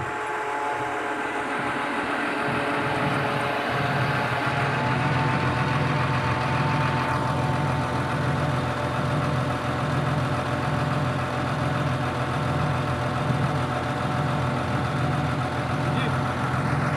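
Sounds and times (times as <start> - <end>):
diesel engine idling: 0.0 - 16.9
thin whine: 0.0 - 16.9.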